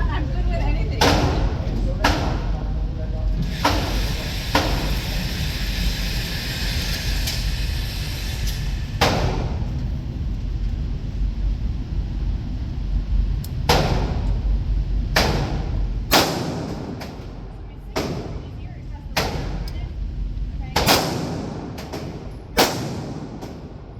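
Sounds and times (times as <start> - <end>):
steady low rumble: 0.0 - 23.9.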